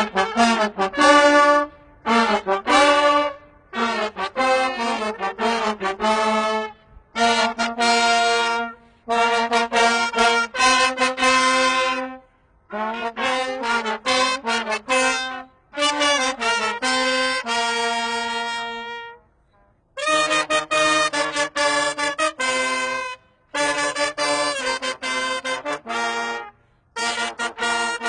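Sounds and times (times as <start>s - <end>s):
brass instruments playing a tune: 0.0s - 28.0s.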